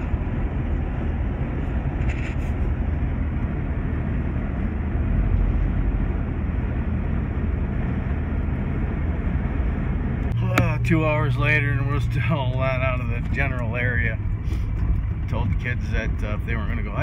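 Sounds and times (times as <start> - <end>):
car interior road and engine rumble: 0.0 - 17.0.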